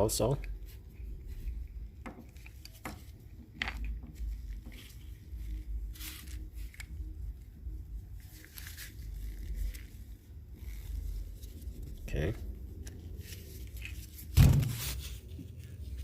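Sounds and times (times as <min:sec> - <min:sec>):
low steady rumble: 0:00.0 - 0:16.0
soft rubbing: 0:00.5 - 0:16.0.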